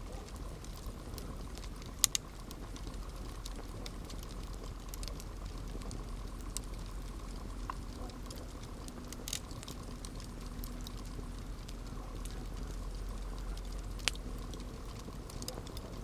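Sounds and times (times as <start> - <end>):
campfire crackling: 0.0 - 16.0
low rush of flame: 0.0 - 16.0.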